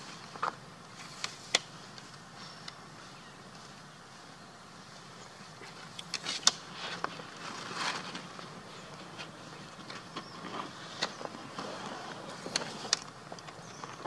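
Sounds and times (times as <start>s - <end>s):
low outdoor hum: 0.0s - 14.0s.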